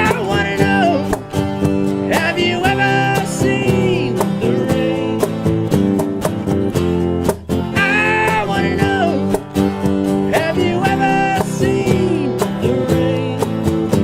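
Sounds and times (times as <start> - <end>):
steady drum beat: 0.0 - 14.0
strummed acoustic guitar: 0.0 - 14.0.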